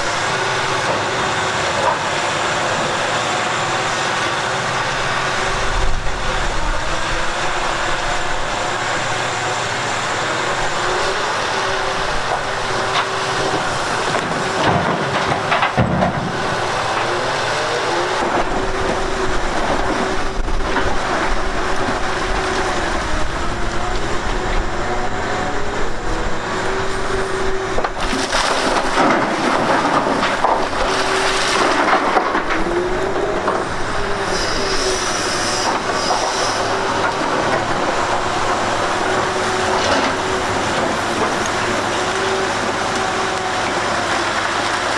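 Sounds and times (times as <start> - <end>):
machine whining: 0.0 - 44.4
grinding noise: 4.6 - 44.4.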